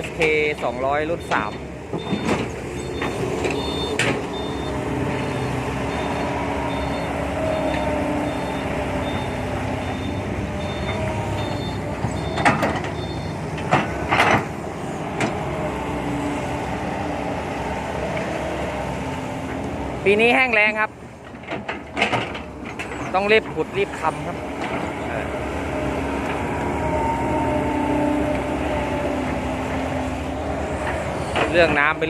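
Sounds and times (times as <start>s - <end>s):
excavator engine hum: 0.0s - 32.0s.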